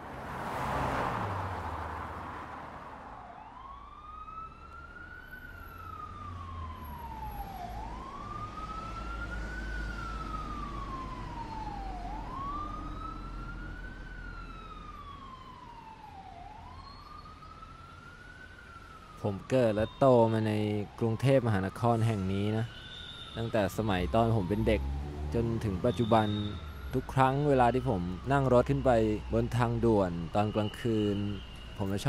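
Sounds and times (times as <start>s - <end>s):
wailing siren: 2.8s - 32.0s.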